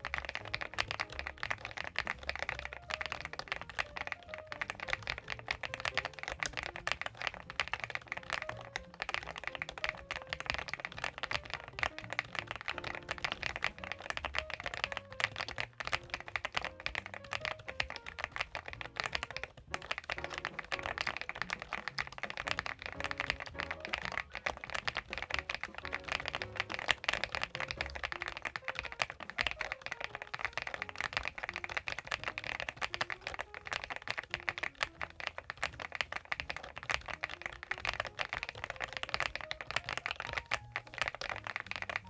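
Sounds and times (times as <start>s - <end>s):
fast typing on mechanical keyboard: 0.0s - 42.0s.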